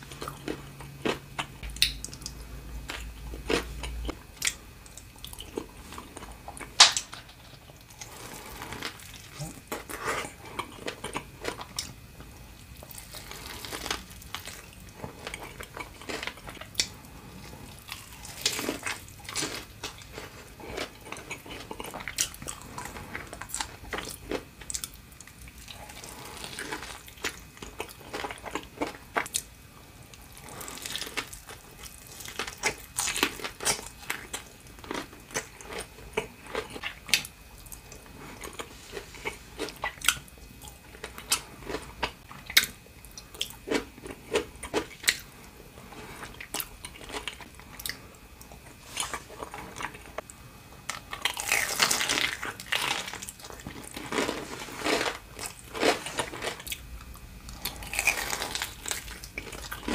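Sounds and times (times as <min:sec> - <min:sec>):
chewing and crunching fried food: 0:00.0 - 0:59.9.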